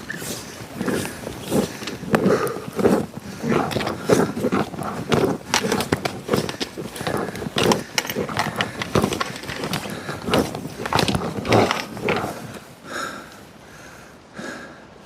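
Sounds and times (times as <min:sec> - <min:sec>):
clothing rustle: 0:00.0 - 0:13.6
footsteps on rough path: 0:00.0 - 0:13.6
hard breathing: 0:00.0 - 0:15.0.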